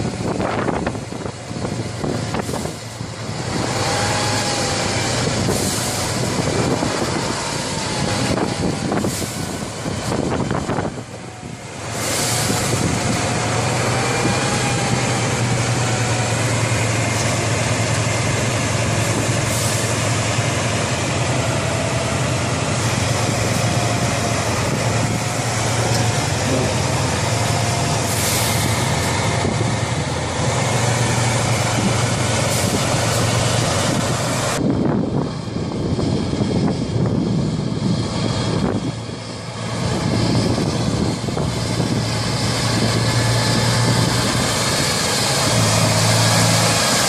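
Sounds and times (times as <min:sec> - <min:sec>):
diesel truck engine droning: 0:00.0 - 0:47.0.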